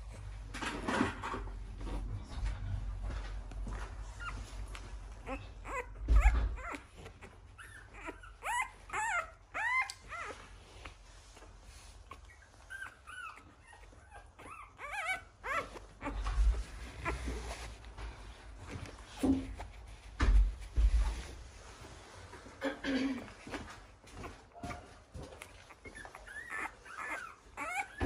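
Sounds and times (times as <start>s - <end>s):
puppy squeaking and whimpering: 0.7s - 1.8s, 3.9s - 21.3s, 23.2s - 28.0s.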